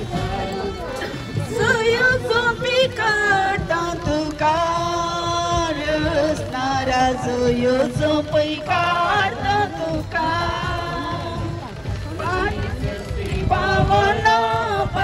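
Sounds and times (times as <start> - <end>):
person singing devotional melody: 0.0 - 15.0.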